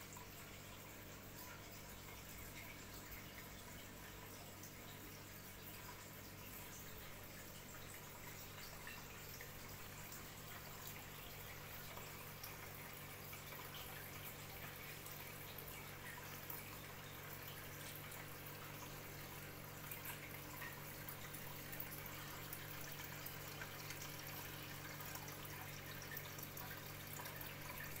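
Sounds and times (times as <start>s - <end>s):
faint steady hum: 0.0s - 28.0s
water trickling and dripping: 0.0s - 28.0s.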